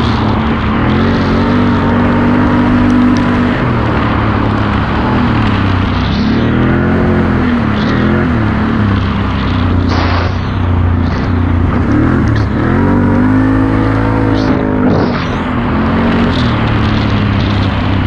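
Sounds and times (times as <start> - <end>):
atv engine revving: 0.0 - 18.0
tyres rumbling on wet dirt: 0.0 - 18.0.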